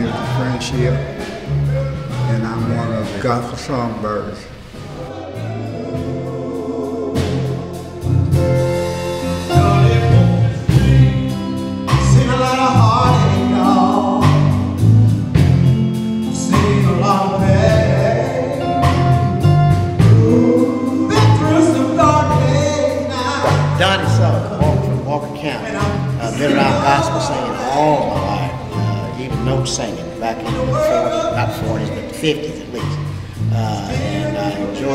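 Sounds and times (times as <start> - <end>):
male vocal group singing in harmony: 0.0 - 3.4, 4.8 - 15.5, 16.1 - 34.9
band with bass and beat: 0.0 - 3.8, 4.5 - 32.0, 32.6 - 34.9.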